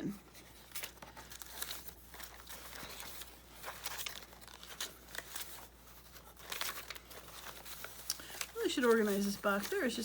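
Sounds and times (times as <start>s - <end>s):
papers rustling and shuffling: 0.0s - 10.0s.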